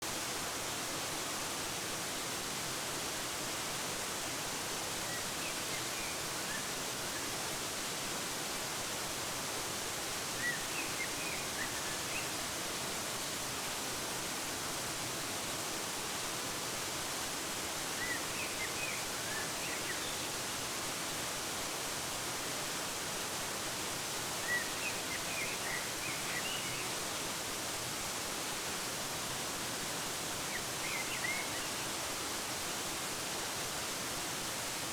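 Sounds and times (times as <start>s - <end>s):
waterfall hiss: 0.0s - 34.9s.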